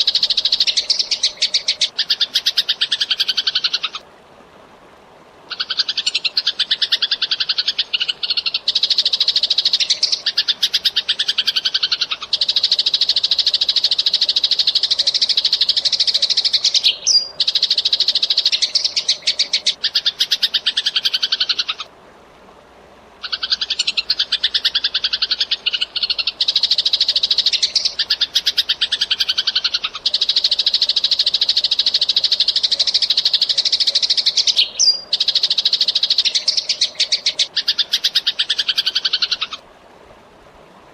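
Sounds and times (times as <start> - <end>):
sparrows chirping: 0.0 - 3.9, 7.6 - 21.8, 23.2 - 39.6.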